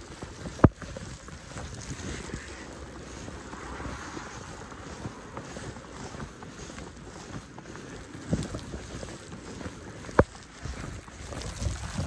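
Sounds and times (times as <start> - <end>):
footsteps crunching in snow: 0.0 - 12.0
wind buffeting microphone: 0.0 - 12.0.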